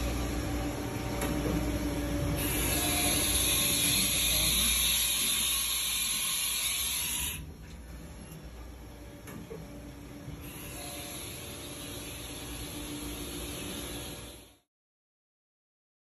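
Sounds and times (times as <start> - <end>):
milling machine humming: 0.0 - 14.6.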